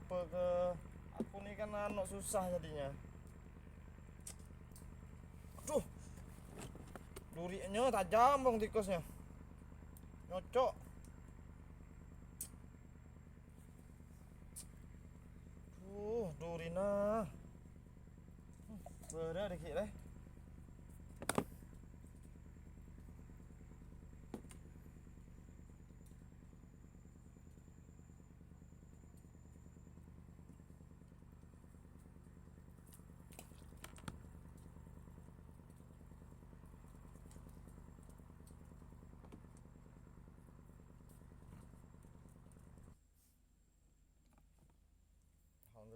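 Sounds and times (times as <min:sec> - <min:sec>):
faint engine hum: 0:00.0 - 0:45.9.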